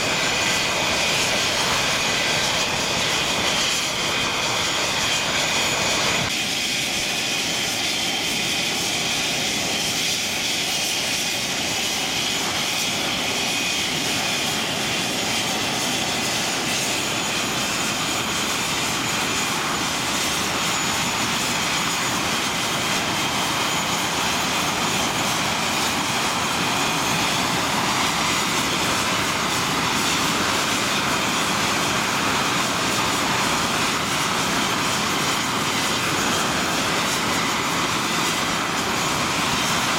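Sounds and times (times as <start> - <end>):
jet engines idling with whine: 0.0 - 39.9.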